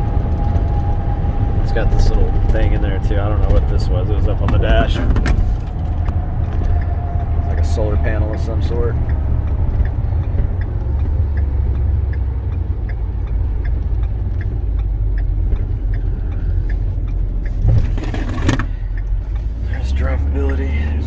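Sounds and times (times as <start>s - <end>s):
light ticking: 0.0s - 21.0s
truck engine and road rumble: 0.0s - 21.0s.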